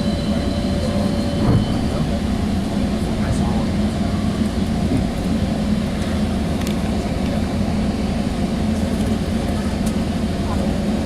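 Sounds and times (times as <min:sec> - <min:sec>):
train car low rumble: 0:00.0 - 0:11.0.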